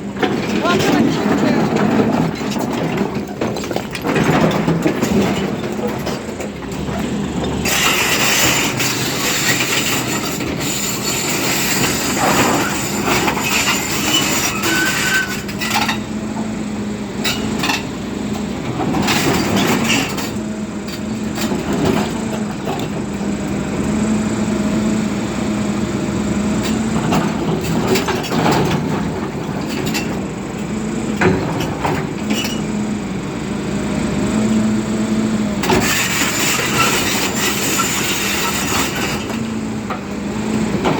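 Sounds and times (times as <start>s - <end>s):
excavator engine and hydraulics drone: 0.0s - 40.9s.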